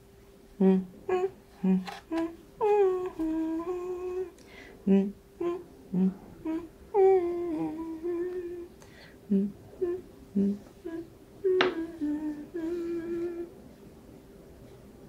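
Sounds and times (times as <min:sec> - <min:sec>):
woman humming a gentle tune: 0:00.5 - 0:13.6.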